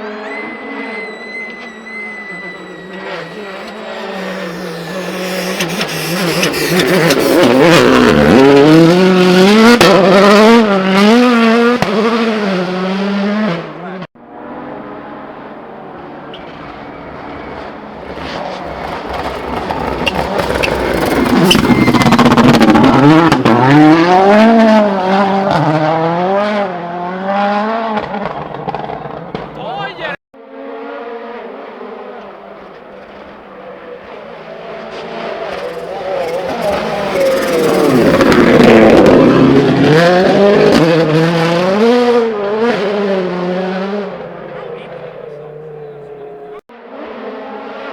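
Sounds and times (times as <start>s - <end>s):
rally car engine at full throttle: 0.0s - 47.9s.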